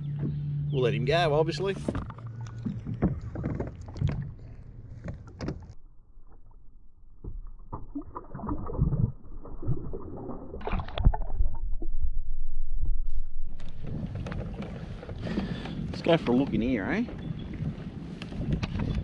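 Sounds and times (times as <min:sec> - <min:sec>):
water sloshing against a kayak hull: 0:01.2 - 0:11.8, 0:13.6 - 0:19.0.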